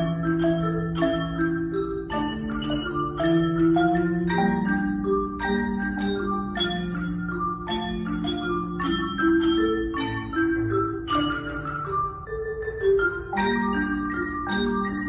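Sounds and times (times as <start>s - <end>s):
marimba played with mallets: 0.0s - 15.0s.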